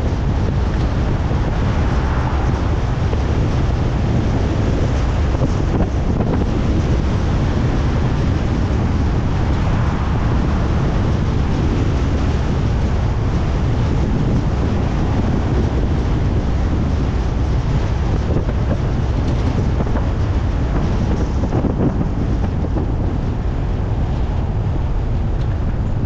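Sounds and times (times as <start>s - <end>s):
car road noise rumble: 0.0s - 26.0s
wind buffeting microphone: 0.0s - 26.0s.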